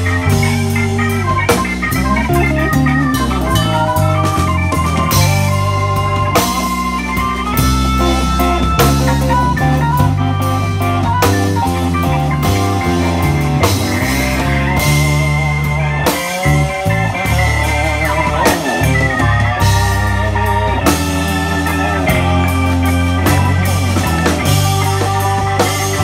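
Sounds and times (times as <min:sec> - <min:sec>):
blues band playing: 0:00.0 - 0:26.0
electric guitar bending notes: 0:00.0 - 0:26.0.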